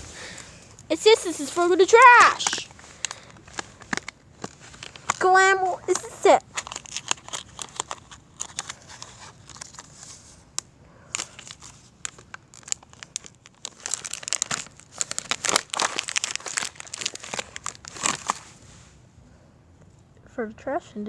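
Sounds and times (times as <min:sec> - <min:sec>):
plastic cover crumpling: 0:00.0 - 0:10.4, 0:11.1 - 0:18.6.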